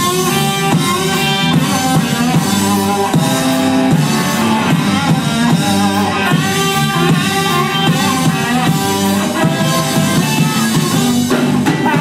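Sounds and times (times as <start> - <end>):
ska band playing live: 0.0 - 12.0.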